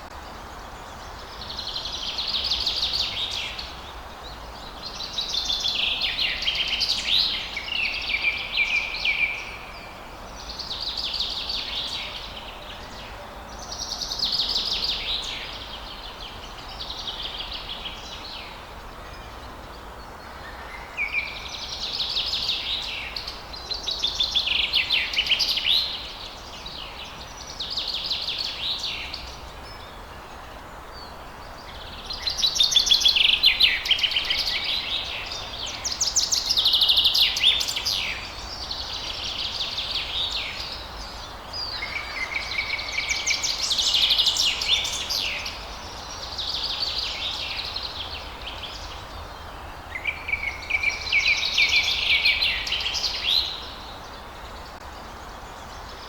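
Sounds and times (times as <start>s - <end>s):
faint background hiss: 0.0s - 56.0s
songbirds trilling and warbling: 0.0s - 56.0s.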